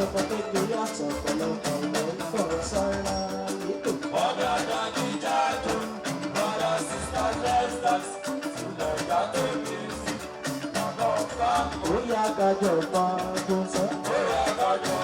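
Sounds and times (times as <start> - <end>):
guitar: 0.0 - 15.0
person singing: 0.0 - 15.0
steady drum beat: 0.0 - 15.0.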